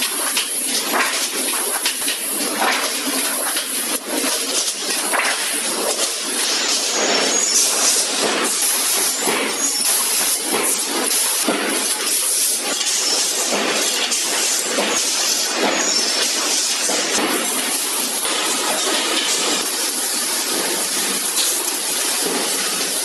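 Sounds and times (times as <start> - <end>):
factory machinery clattering: 0.0 - 23.0.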